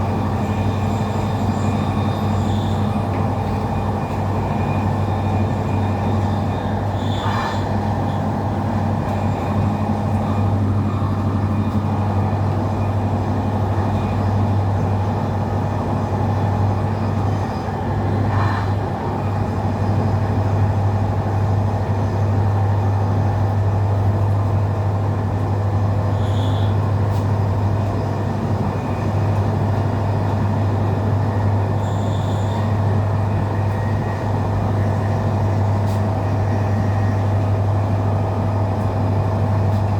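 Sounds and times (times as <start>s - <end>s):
train rumble inside carriage: 0.0s - 39.9s.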